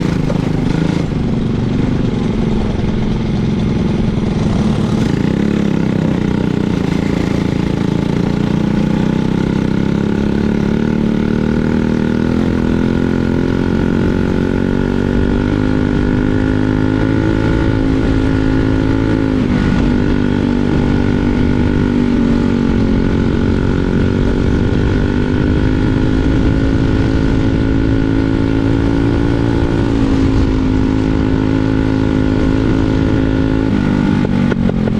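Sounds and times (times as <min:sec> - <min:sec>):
kart engine running under load: 0:00.0 - 0:34.9.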